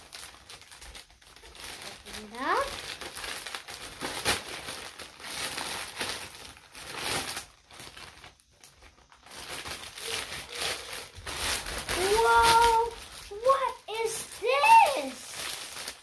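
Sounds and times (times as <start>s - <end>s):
plastic mailer bag crinkling and tearing: 0.0s - 16.0s.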